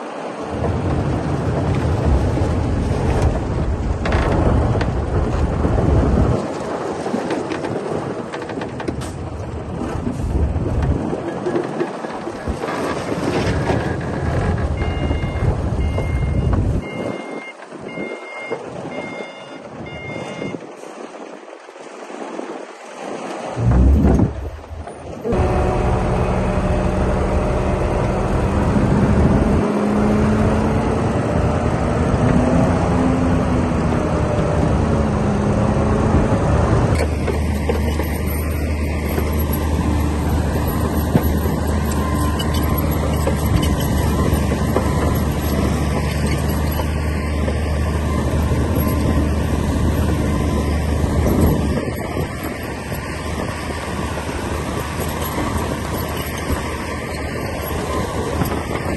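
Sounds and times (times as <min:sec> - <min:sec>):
diesel engine under load: 0:00.0 - 0:21.0, 0:23.6 - 0:58.9.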